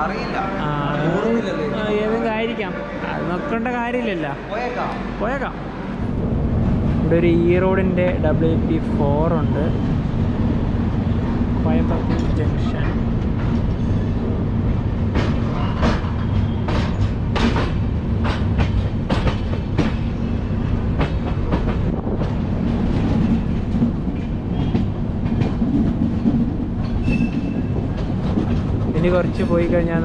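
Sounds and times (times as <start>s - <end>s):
train coach rumble: 2.8s - 30.0s.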